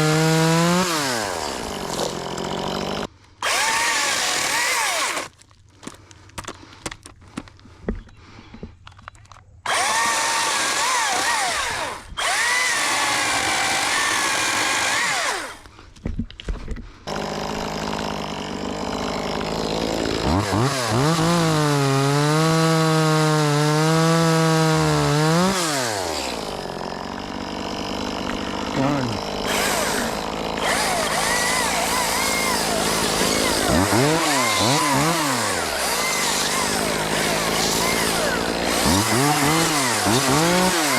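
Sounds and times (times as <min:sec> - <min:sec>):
chainsaw cutting wood: 0:00.0 - 0:05.4, 0:09.7 - 0:15.7, 0:17.0 - 0:40.9.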